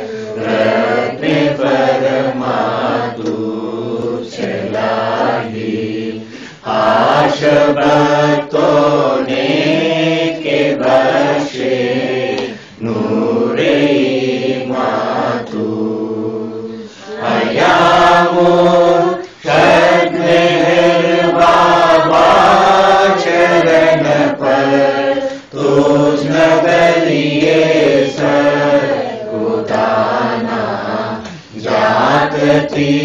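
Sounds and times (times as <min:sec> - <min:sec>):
voices singing devotional chant: 0:00.0 - 0:33.0.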